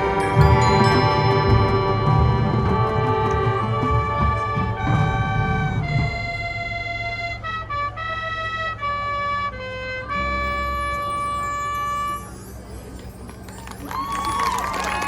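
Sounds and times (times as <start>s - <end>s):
marching band playing: 0.0s - 13.5s.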